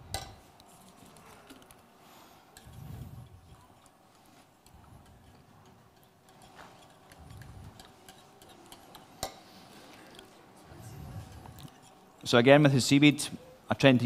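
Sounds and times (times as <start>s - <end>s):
low room murmur: 0.0s - 14.0s.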